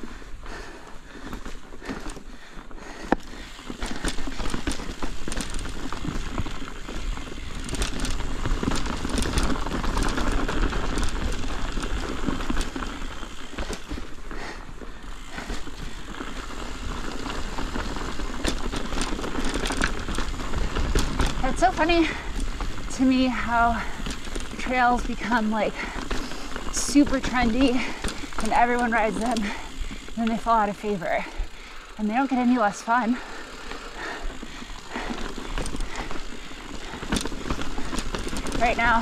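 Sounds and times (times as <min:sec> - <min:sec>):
bike tyres crunching over rock: 0:00.0 - 0:39.0.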